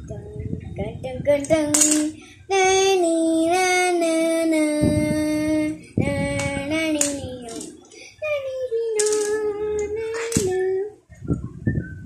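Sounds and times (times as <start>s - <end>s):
child singing held notes: 0.0s - 11.0s.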